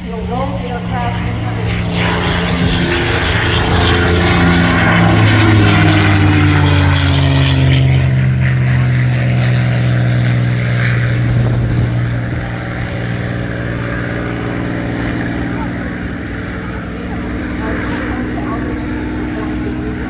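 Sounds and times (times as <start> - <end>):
propeller plane engine passing: 0.0 - 20.0.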